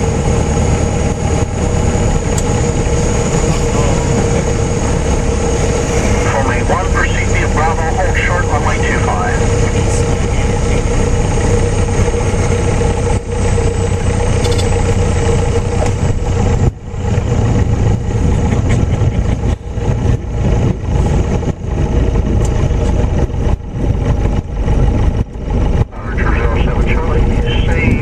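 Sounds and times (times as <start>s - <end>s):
light aircraft engine drone: 0.0s - 28.0s.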